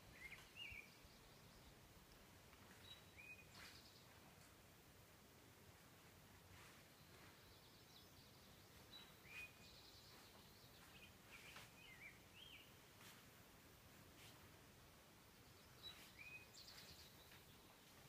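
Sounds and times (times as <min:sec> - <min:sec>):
quiet bird chirps: 0:00.0 - 0:04.7, 0:06.3 - 0:13.3, 0:15.1 - 0:18.0.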